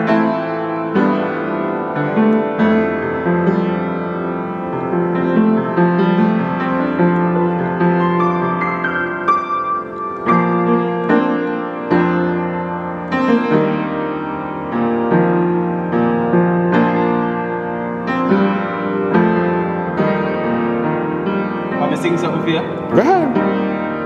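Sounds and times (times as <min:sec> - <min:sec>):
upright piano chords and melody: 0:00.0 - 0:23.6.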